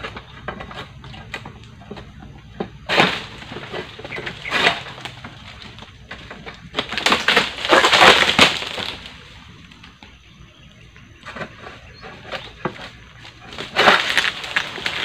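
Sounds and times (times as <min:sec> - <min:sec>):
dry fronds scraping and tearing: 0:00.0 - 0:10.2, 0:11.2 - 0:15.0
sickle cutting frond stalks: 0:00.0 - 0:10.2, 0:11.2 - 0:15.0.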